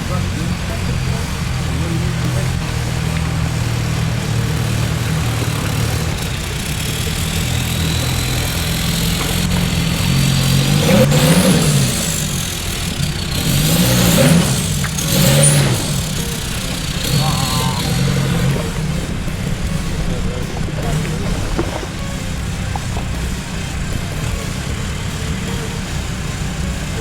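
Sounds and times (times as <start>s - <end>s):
off-road truck engine revving: 0.0s - 27.0s.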